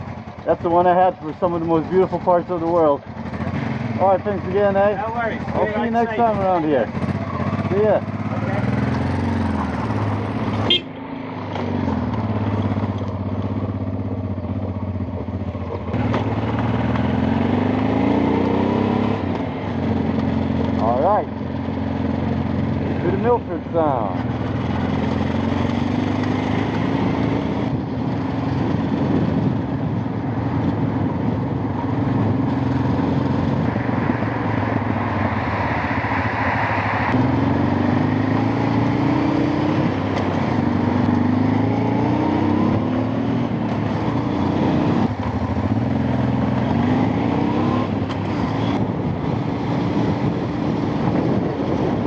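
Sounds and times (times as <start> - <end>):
vehicle engine accelerating through gears: 0.0 - 5.8, 6.4 - 52.0.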